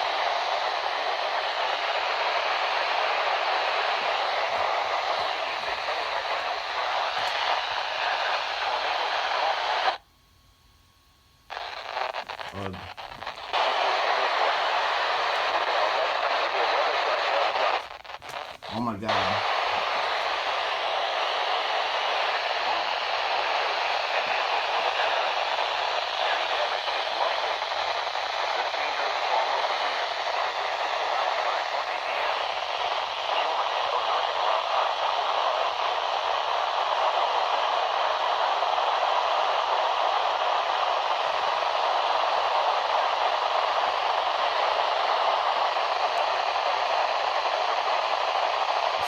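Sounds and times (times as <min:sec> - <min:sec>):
tv static hiss: 0:00.0 - 0:49.0.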